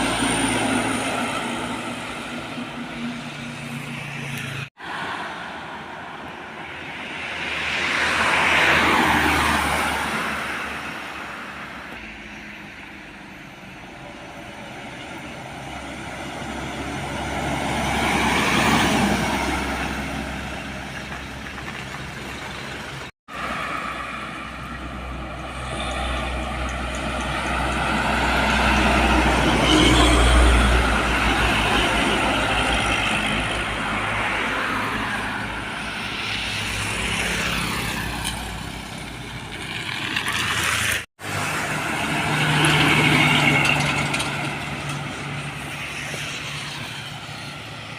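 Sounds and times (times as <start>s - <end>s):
diesel trucks driving past: 0.0s - 47.9s.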